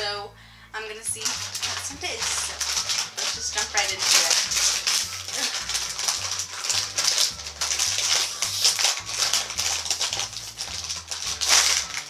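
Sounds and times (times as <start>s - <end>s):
background music bass line: 0.0s - 12.0s
plastic bag crinkling: 1.1s - 12.0s.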